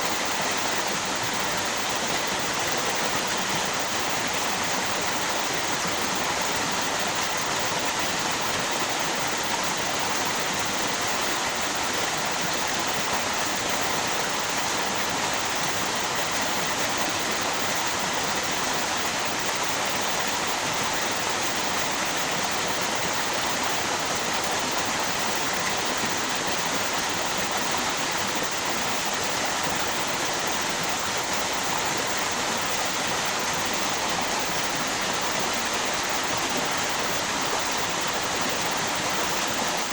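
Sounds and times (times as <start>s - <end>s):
flowing river and waterfall: 0.0s - 39.9s.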